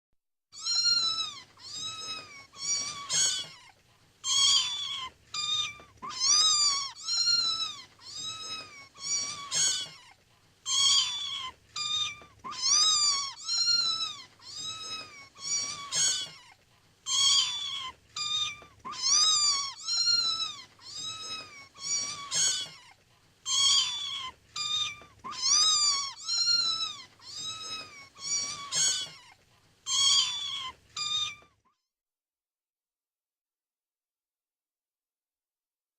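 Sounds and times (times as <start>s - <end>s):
kittens meowing: 0.6s - 10.1s, 10.7s - 16.5s, 17.1s - 29.3s, 29.9s - 31.6s.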